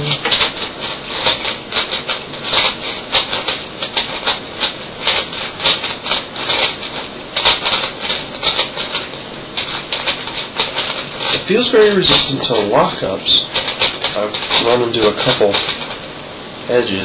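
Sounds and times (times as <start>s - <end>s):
plastic puzzle cube clacking: 0.0s - 12.6s, 13.5s - 16.0s.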